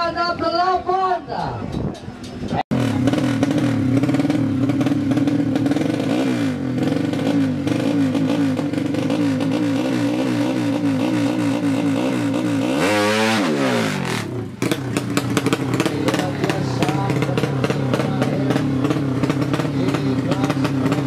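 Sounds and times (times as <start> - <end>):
motorcycle engine revving: 2.3 - 21.0.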